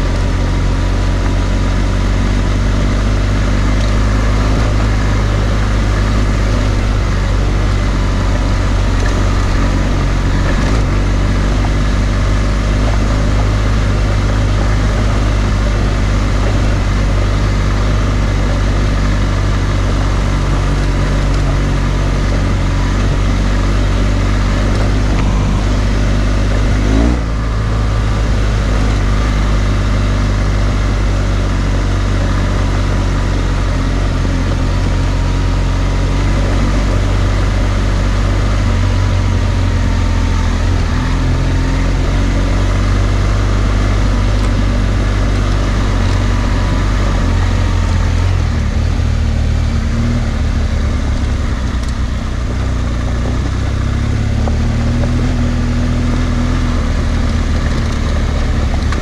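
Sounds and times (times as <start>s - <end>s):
motorcycle engine running: 0.0s - 59.0s
tyres on gravel: 0.0s - 59.0s.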